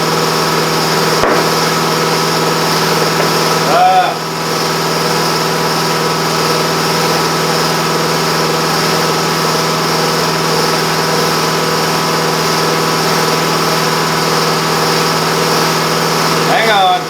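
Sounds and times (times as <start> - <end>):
machine humming and rattling: 0.0 - 17.0.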